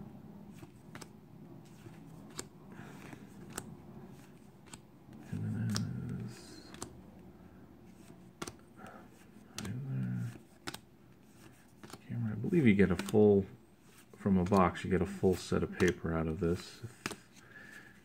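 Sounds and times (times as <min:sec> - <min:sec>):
paper cards flipping with snaps: 0:00.5 - 0:07.0, 0:07.9 - 0:12.0, 0:12.6 - 0:13.2, 0:13.9 - 0:17.5.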